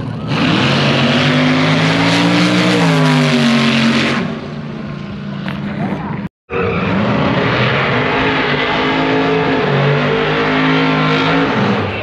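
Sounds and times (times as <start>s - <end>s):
loud racing car engine: 0.0s - 12.0s.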